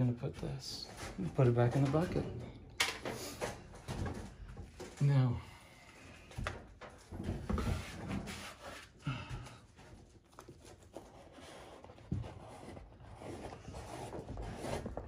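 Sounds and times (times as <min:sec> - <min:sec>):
wallpaper rustling and crinkling: 0:00.0 - 0:15.0.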